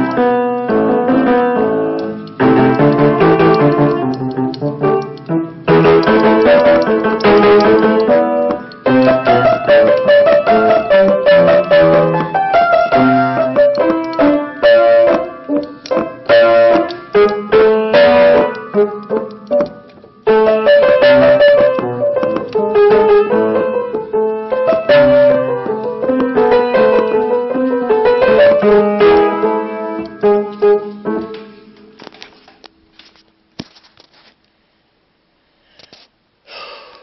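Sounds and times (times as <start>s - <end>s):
piano playing: 0.0s - 32.0s.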